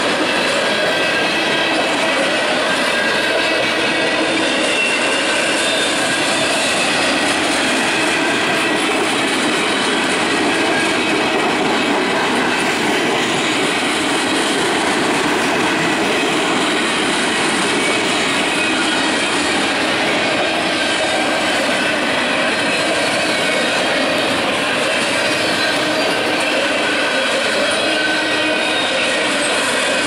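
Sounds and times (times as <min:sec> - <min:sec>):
train wheels rolling on rails: 0:00.0 - 0:30.0.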